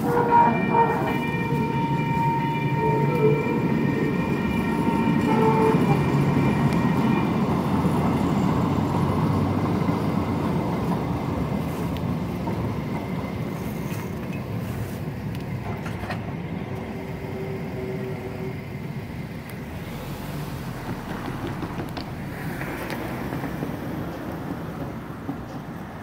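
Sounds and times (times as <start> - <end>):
light rail car rumbling past: 0.0 - 26.0.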